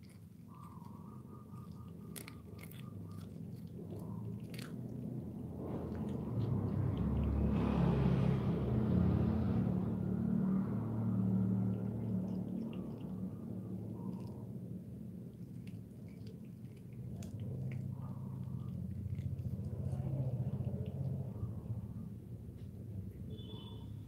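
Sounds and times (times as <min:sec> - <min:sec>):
cat crunching food: 0:00.0 - 0:09.0, 0:10.2 - 0:21.8
low steady rumble: 0:00.0 - 0:24.0.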